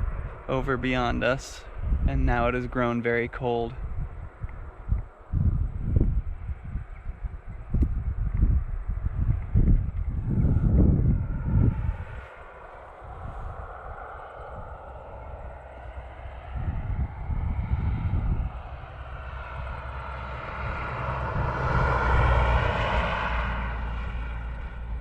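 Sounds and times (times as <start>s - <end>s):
propeller plane flying over: 0.0s - 25.0s
wind rumbling on microphone: 0.0s - 25.0s.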